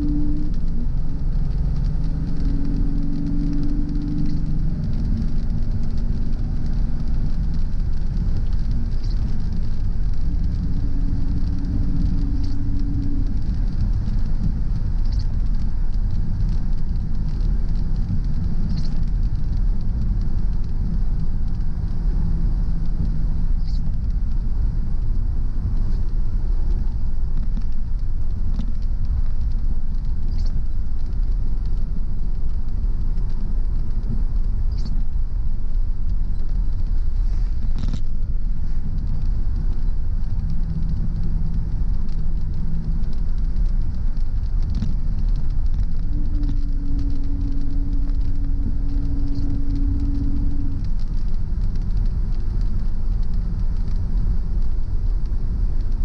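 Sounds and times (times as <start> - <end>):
car engine and tyre rumble: 0.0 - 56.0
faint ticks: 0.0 - 56.0
rain: 0.0 - 56.0.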